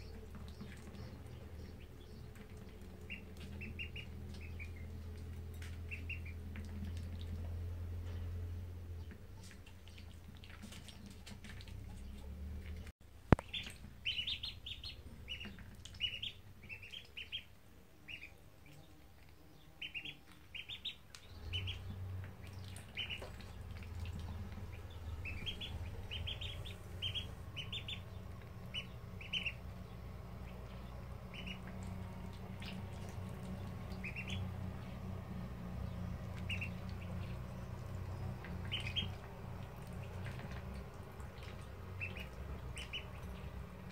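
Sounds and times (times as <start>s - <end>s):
ducklings peeping: 0.0s - 43.9s
low steady hum: 0.0s - 43.9s.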